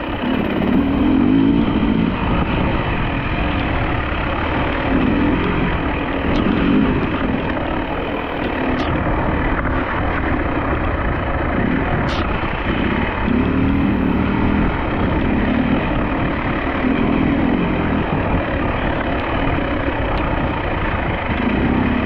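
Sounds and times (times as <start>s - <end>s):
dirt bike engine running: 0.0s - 22.0s
wind noise on microphone: 0.0s - 22.0s.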